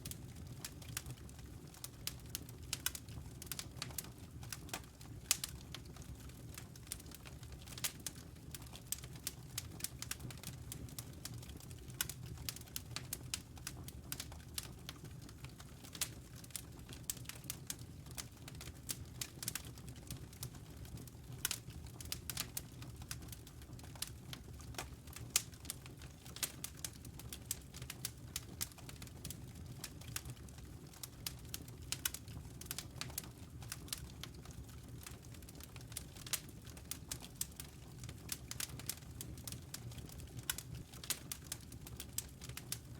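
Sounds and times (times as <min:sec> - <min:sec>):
low rumble of burning logs: 0:00.0 - 0:42.9
wood fire crackling: 0:00.0 - 0:42.9.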